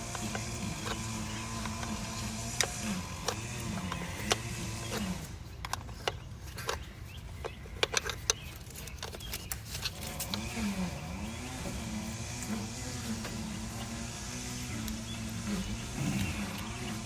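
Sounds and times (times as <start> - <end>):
steady low hum: 0.0 - 7.9, 8.6 - 17.0.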